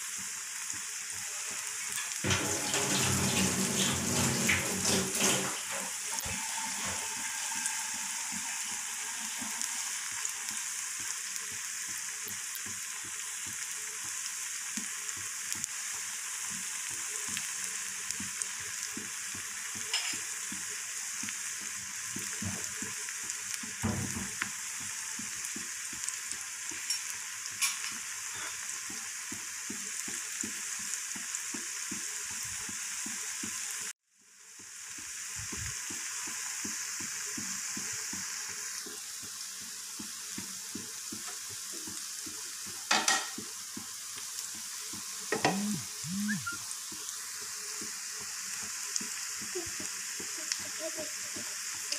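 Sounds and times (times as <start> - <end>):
deep-frying sizzle and crackles: 0.0 - 51.9.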